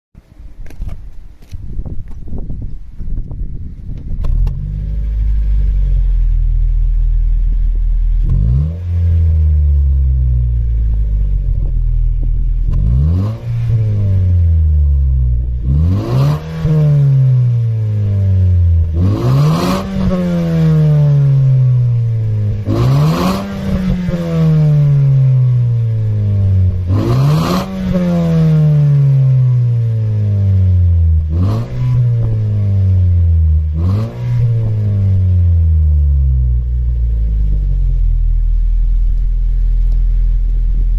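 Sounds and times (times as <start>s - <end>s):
car engine idling and revving: 0.2s - 40.9s.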